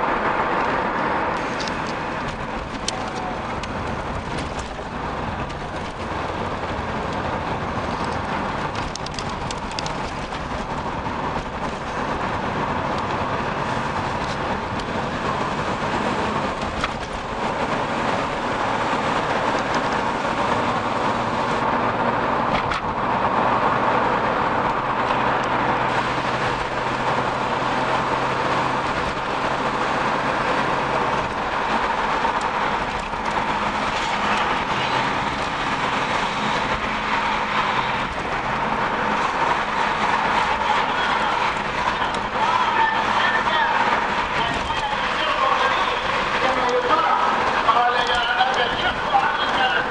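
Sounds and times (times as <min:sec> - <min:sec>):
low engine hum: 0:00.0 - 0:49.9.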